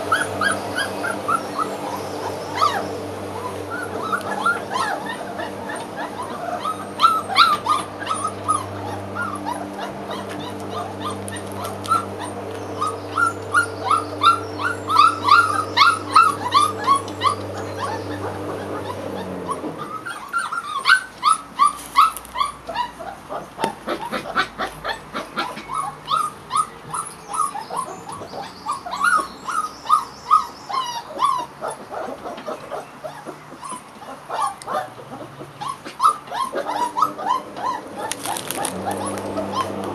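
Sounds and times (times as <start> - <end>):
lawn mower humming: 0.0 - 31.3, 32.0 - 39.9
puppies whining and yipping: 0.0 - 39.9.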